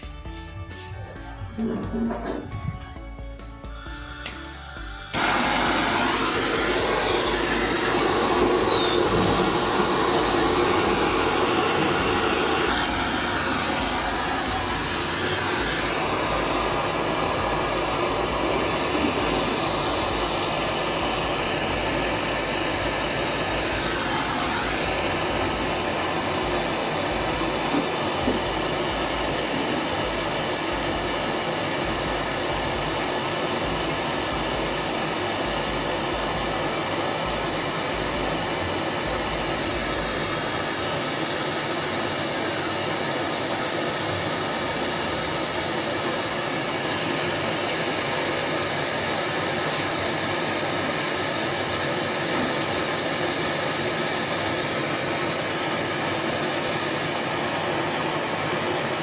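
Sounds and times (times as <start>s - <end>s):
machine whining: 3.7s - 59.0s.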